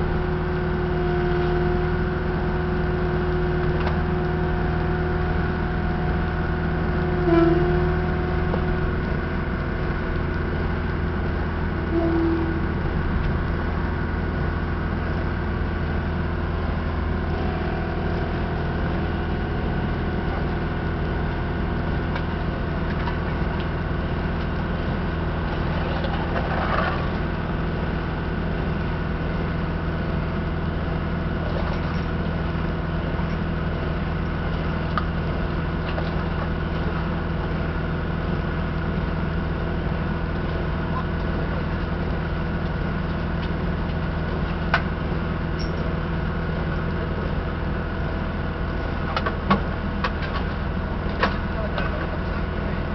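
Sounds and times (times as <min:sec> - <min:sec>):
engine running steadily: 0:00.0 - 0:52.9.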